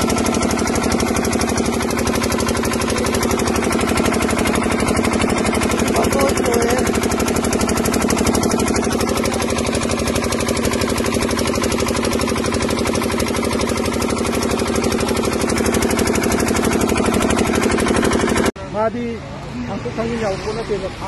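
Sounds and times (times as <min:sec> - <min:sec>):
water pump engine running: 0:00.0 - 0:21.0.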